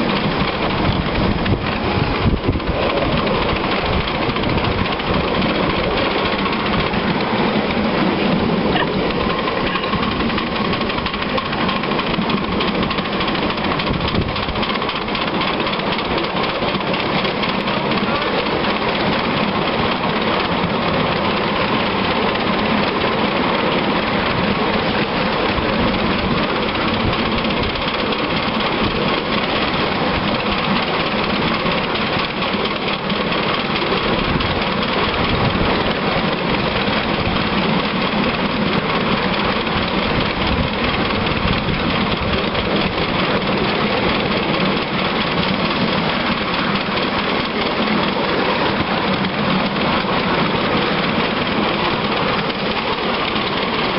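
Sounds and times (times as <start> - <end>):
steam locomotive exhaust: 0.0 - 53.9
wheels on rails: 0.0 - 53.9.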